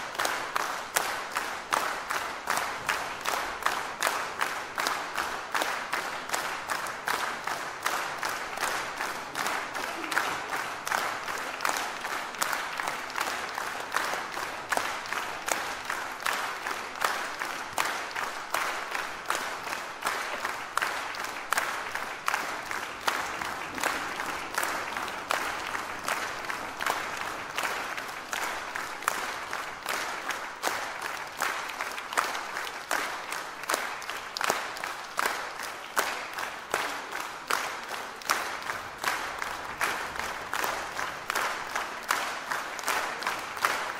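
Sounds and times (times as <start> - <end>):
audience clapping in rhythm: 0.0 - 43.9.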